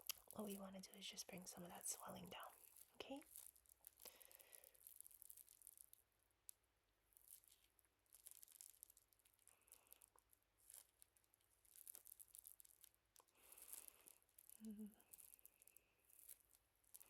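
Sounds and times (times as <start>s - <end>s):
plastic ice pack crinkling: 0.0s - 17.0s.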